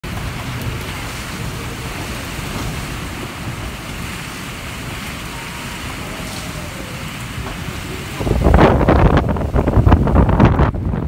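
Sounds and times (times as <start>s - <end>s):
heavy rain: 0.0s - 11.0s
surf from rough sea: 0.0s - 11.0s
wind: 0.0s - 11.0s.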